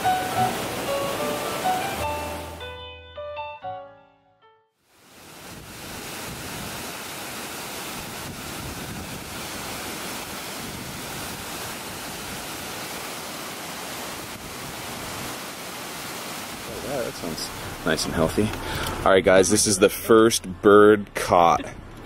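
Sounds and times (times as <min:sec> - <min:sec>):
waterfall rushing into pool: 0:00.0 - 0:02.6, 0:04.9 - 0:20.1.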